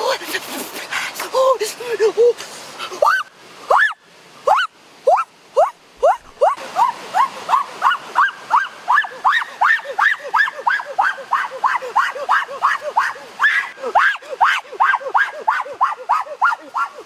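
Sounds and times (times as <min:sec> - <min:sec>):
lower falling animal call: 0:03.0 - 0:17.0.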